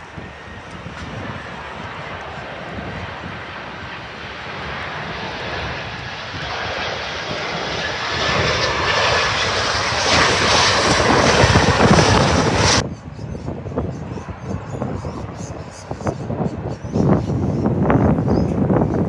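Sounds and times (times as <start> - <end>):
jet airliner engines: 0.0 - 19.0
wind rumbling on microphone: 0.0 - 19.0.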